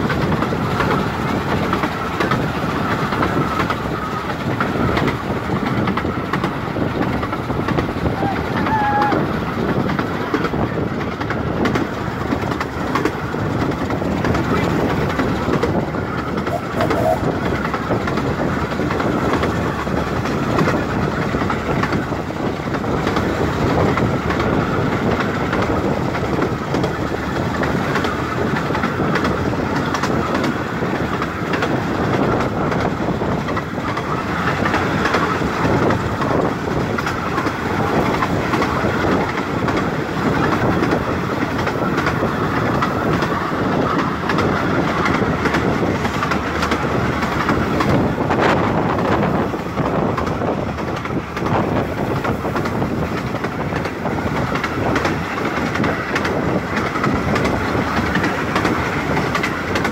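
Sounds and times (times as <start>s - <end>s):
train running: 0.0s - 59.9s
wheels clicking over rail joints: 0.0s - 59.9s.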